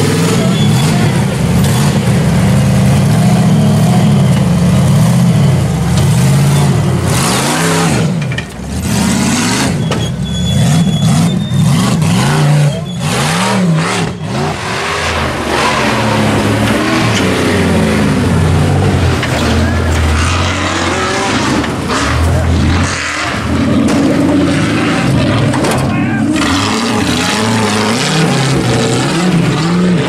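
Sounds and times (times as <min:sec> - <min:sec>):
off-road engines revving: 0:00.0 - 0:30.0.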